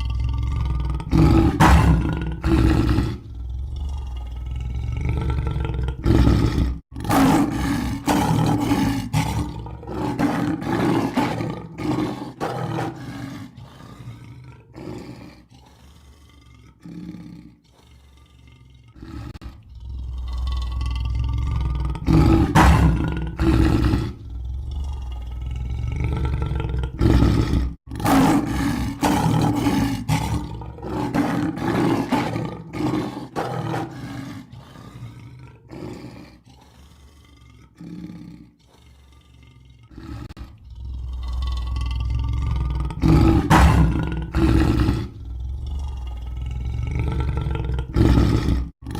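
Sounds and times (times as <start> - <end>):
lion roaring: 0.0 - 48.9.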